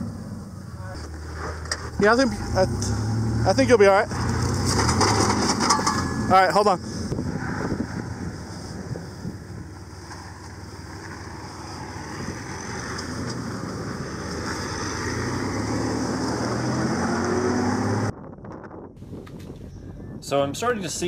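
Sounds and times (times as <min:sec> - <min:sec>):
truck engine climbing: 0:00.0 - 0:19.5.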